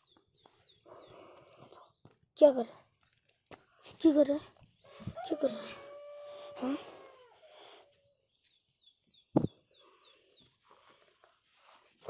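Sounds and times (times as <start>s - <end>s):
small bird chirping: 0.0s - 10.9s.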